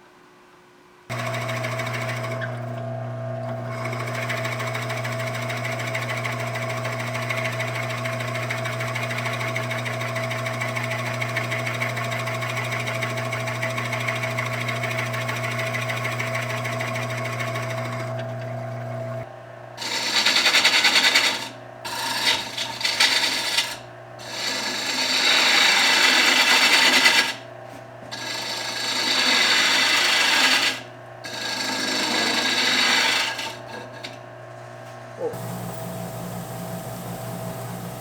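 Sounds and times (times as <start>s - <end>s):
wood lathe motor humming: 1.1s - 27.4s, 28.1s - 34.3s, 34.9s - 38.0s
tool rasping on spinning wood: 3.6s - 27.4s, 28.0s - 34.2s, 35.0s - 38.0s.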